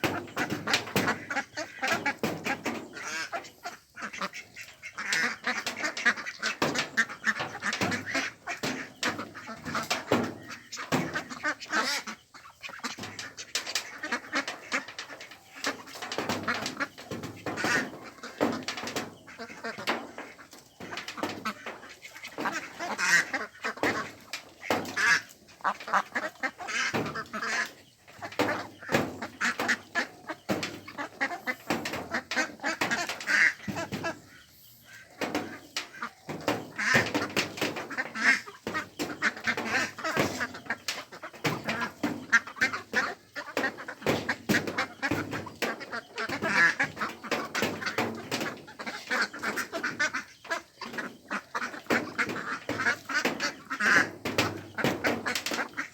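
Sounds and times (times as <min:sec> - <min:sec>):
ducks quacking: 0:00.0 - 0:55.9.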